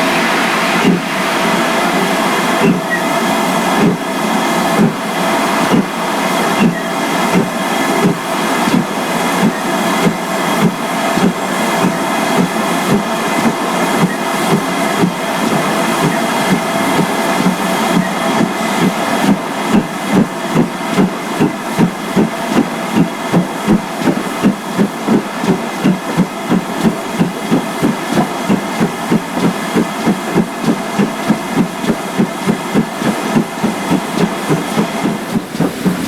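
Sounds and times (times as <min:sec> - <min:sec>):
steady steam hiss: 0:00.0 - 0:36.0
steam locomotive exhaust beats: 0:00.0 - 0:36.0.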